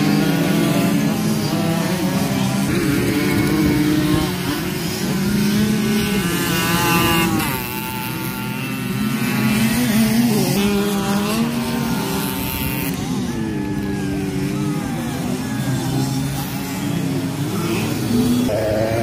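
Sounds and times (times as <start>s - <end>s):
small motorcycle engines revving: 0.0s - 19.0s.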